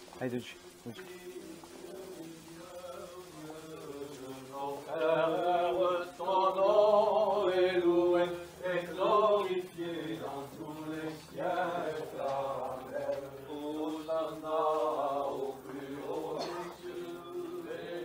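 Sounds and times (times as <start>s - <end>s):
liturgical chant: 0.3s - 18.0s.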